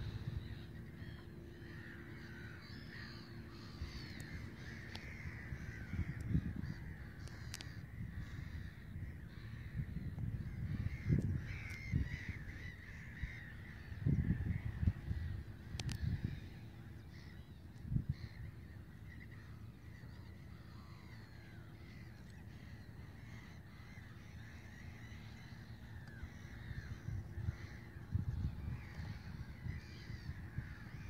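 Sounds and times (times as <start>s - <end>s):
birds calling: 0.0s - 31.0s
wind rumble on microphone: 0.0s - 31.0s.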